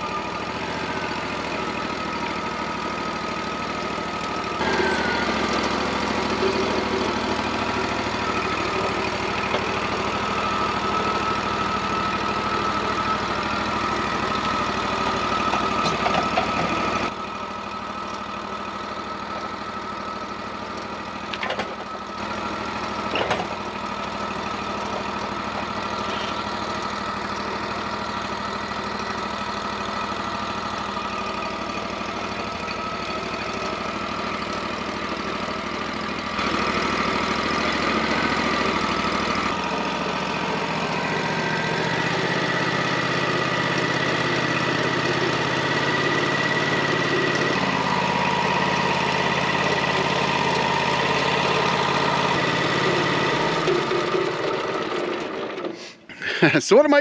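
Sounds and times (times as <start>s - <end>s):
sawmill running: 0.0s - 57.0s.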